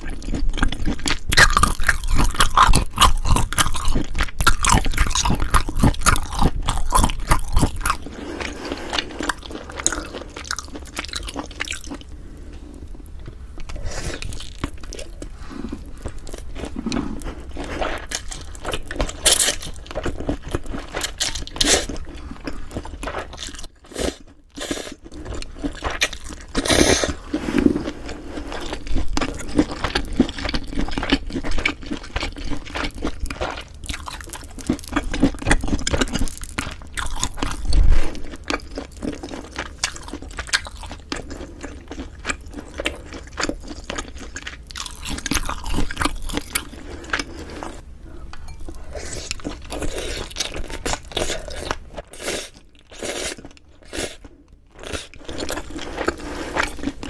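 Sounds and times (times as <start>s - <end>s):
chewing and biting food: 0.0s - 12.2s, 13.6s - 47.8s, 48.4s - 57.0s.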